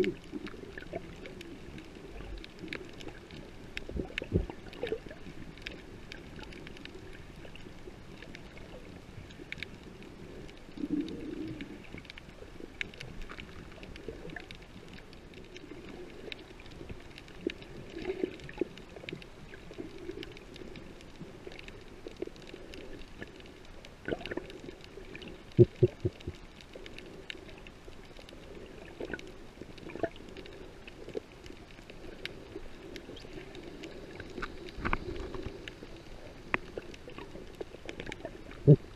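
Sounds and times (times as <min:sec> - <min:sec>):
low underwater hum: 0:00.0 - 0:38.9
underwater clicks and crackles: 0:00.0 - 0:38.9.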